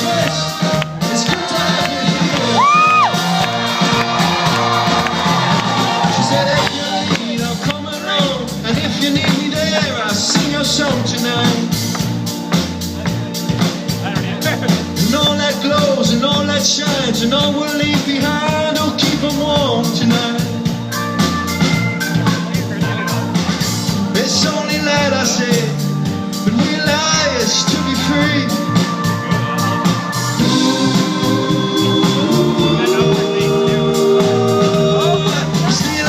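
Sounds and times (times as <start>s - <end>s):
drum beat: 0.0s - 36.0s.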